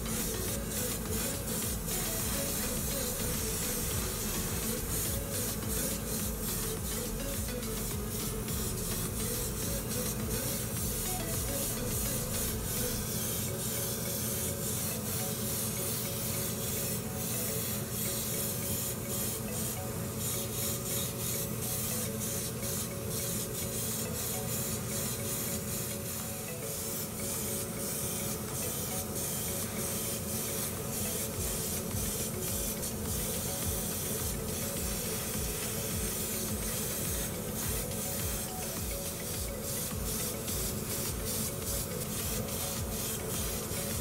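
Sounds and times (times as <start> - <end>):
airbrush hissing in pulses: 0.0 - 44.0
steady low hum: 0.0 - 44.0.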